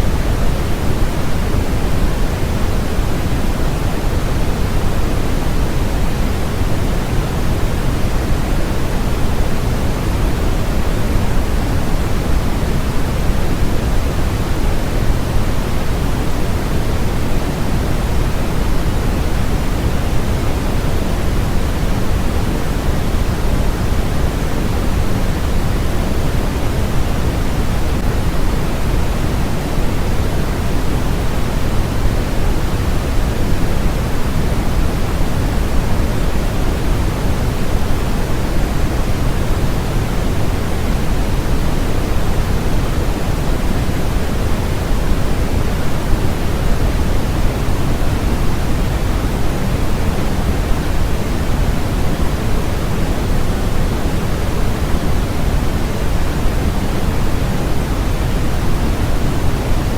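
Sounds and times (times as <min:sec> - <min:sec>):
steady generated noise hiss: 0:00.0 - 0:59.9.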